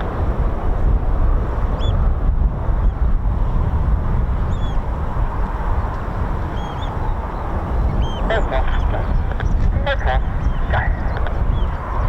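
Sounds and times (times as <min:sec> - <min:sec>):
heavy low rumble: 0:00.0 - 0:12.0
wind buffeting microphone: 0:00.0 - 0:12.0.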